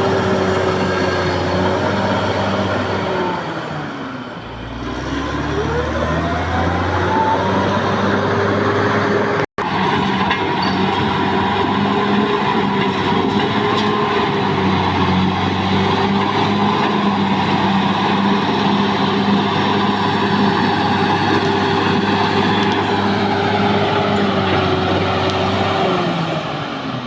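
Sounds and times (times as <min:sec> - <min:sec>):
bulldozer diesel engine running: 0:00.0 - 0:26.8.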